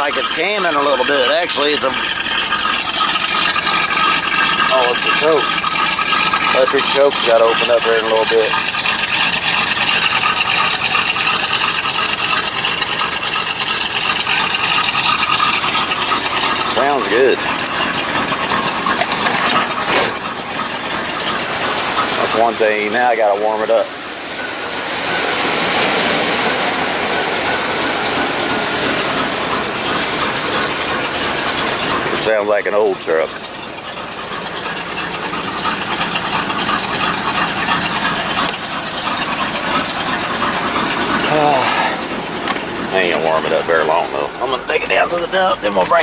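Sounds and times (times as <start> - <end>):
truck engine lopey idle: 0.0 - 46.0.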